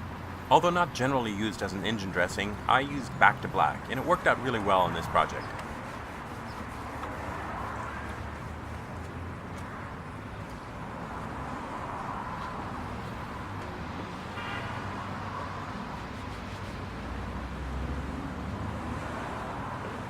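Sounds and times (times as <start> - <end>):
vehicle rumble with hiss: 0.0 - 20.0.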